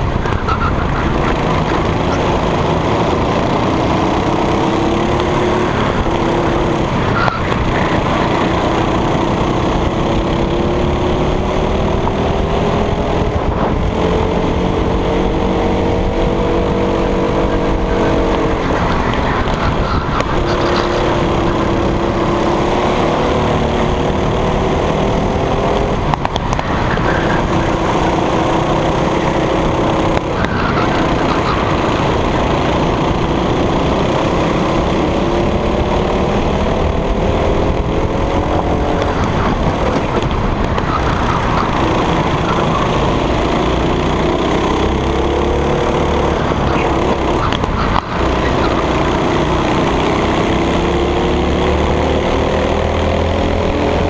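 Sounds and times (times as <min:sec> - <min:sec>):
racing kart engine revving: 0:00.0 - 0:54.0
rushing wind noise: 0:00.0 - 0:54.0.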